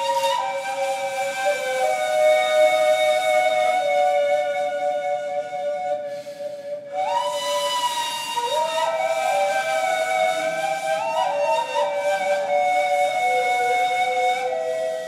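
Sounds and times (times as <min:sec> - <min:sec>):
reed flutes playing a duet: 0:00.0 - 0:15.0.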